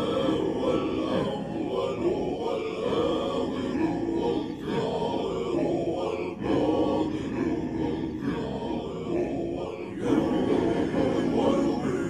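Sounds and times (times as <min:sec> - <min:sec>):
group of voices chanting: 0:00.0 - 0:12.0.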